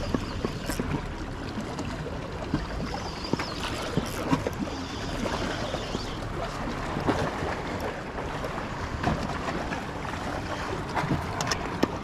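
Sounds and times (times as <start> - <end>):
water lapping and slapping: 0.0 - 12.0.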